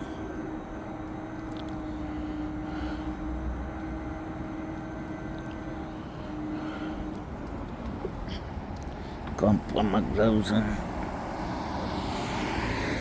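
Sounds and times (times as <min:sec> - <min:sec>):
road rumble: 0:00.0 - 0:13.0
vehicle motor hum: 0:00.0 - 0:13.0.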